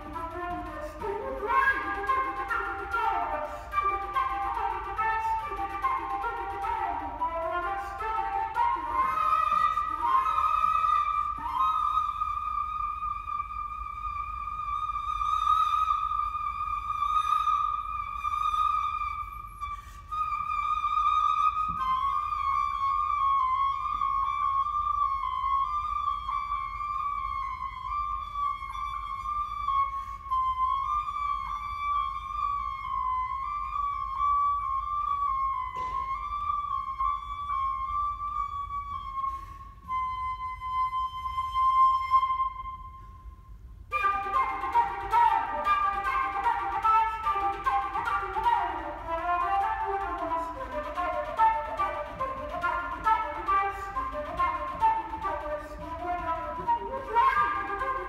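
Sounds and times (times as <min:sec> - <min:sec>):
solo flute playing: 0:00.0 - 0:58.0.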